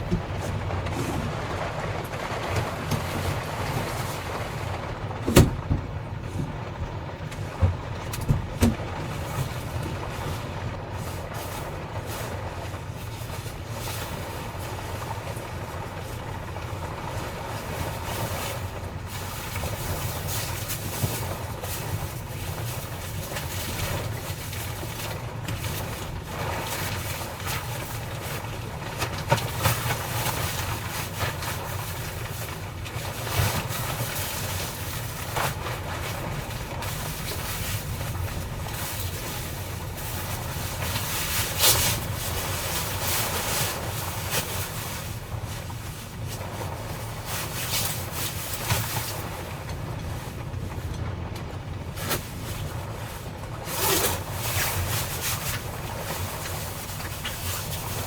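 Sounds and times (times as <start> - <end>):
wind and rain rumble: 0.0 - 58.0.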